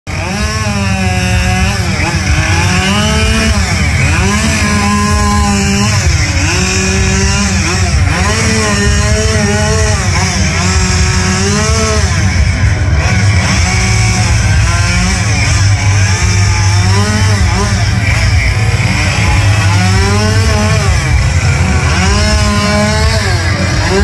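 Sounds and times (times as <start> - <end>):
chainsaw cutting wood: 0.1 - 24.0.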